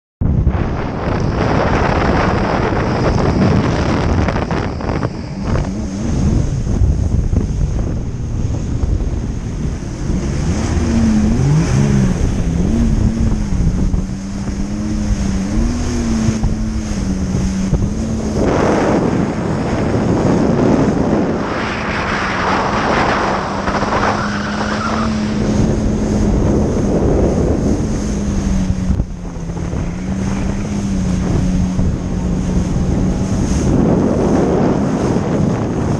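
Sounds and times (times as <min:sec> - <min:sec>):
jet ski engine running: 0:00.2 - 0:35.9
rushes of noise: 0:00.2 - 0:35.9
wind buffeting microphone: 0:00.2 - 0:35.9.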